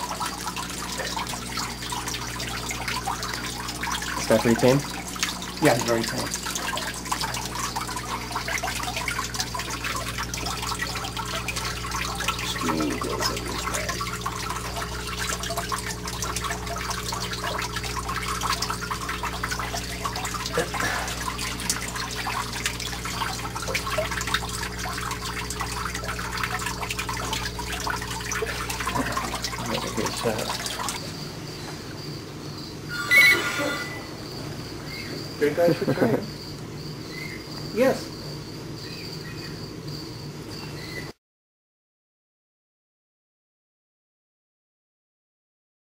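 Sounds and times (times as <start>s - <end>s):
running water trickling: 0.0s - 39.3s
low electrical hum: 0.0s - 41.2s.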